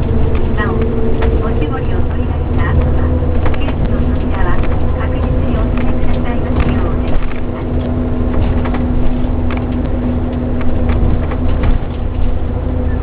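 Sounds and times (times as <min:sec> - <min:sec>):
bus engine and road drone: 0:00.0 - 0:13.0
low hum: 0:00.0 - 0:13.0
small rattles and clicks: 0:00.0 - 0:13.0.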